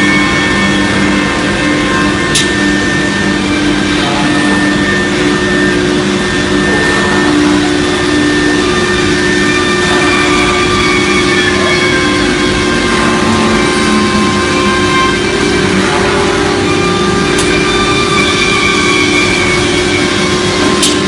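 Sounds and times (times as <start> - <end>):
cnc router machining: 0.0 - 21.0.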